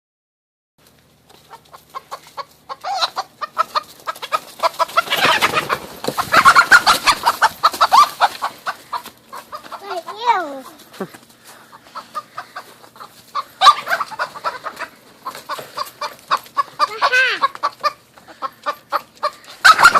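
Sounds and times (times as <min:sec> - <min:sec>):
chickens clucking: 0:01.1 - 0:19.9.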